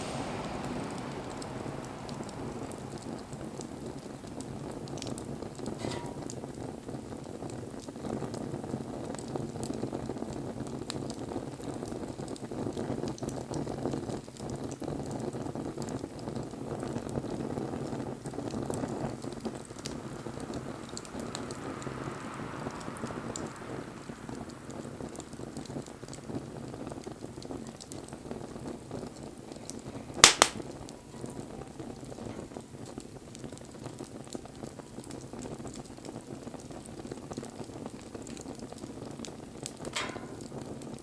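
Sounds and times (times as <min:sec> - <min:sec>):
bonfire flames hissing: 0:00.0 - 0:41.0
wood crackling and popping: 0:00.0 - 0:41.0.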